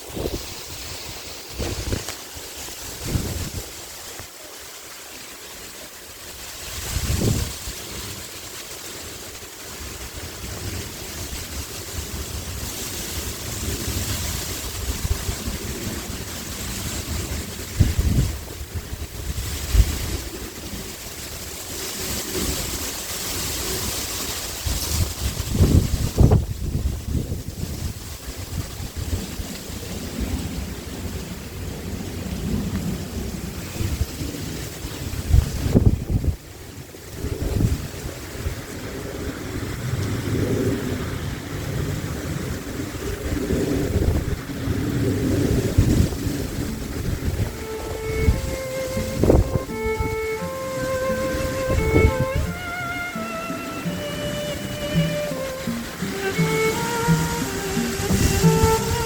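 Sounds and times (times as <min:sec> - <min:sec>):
wind buffeting microphone: 0:00.0 - 0:04.4, 0:06.2 - 0:59.0
rustling hiss: 0:00.0 - 0:59.0.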